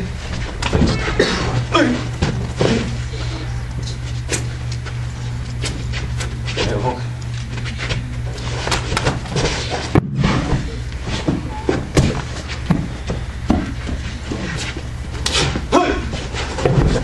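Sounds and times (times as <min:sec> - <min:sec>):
bodies and feet thudding on mats: 0:00.0 - 0:06.8, 0:07.5 - 0:17.0
steady low hum: 0:00.0 - 0:17.0.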